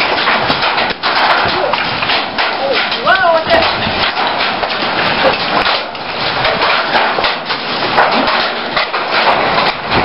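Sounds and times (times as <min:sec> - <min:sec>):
hailstones clattering: 0:00.0 - 0:10.0.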